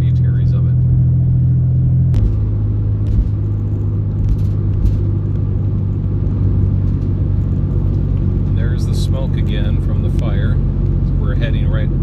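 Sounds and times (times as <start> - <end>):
car interior engine drone: 0.0 - 12.0.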